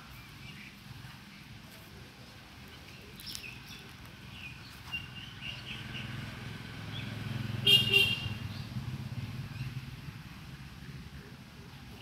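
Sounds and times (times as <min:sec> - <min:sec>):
birds chirping: 0:00.0 - 0:01.6, 0:02.5 - 0:12.0.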